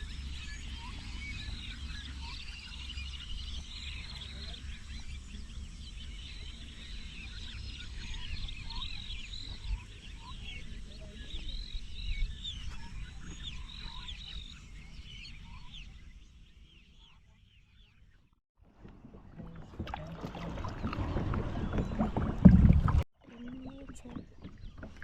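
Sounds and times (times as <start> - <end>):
small birds chirping chorus: 0.0 - 18.4, 19.3 - 25.0.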